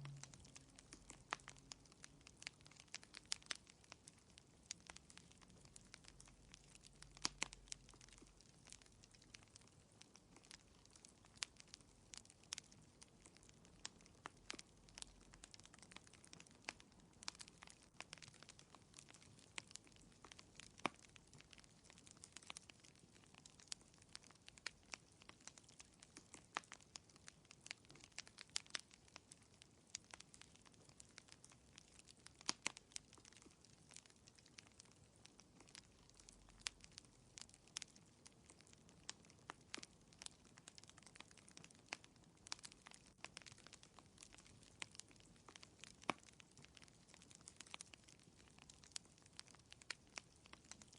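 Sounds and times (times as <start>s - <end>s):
fire crackling in a fireplace: 0.0s - 50.9s.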